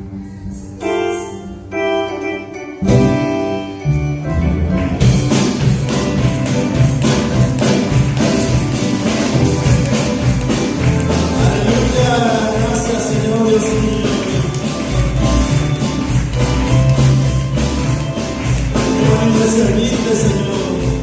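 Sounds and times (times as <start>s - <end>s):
held keyboard chords: 0.0s - 21.0s
band playing steady beat: 0.2s - 21.0s.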